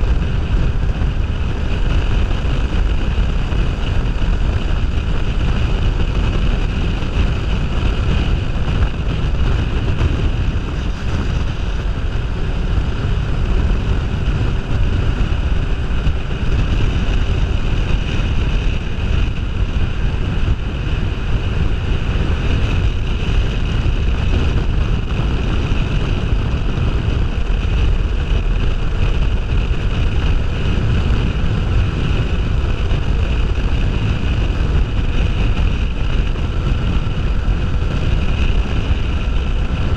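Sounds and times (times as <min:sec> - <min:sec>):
motorcycle engine cruising: 0:00.0 - 0:39.9
wind buffeting microphone: 0:00.0 - 0:39.9.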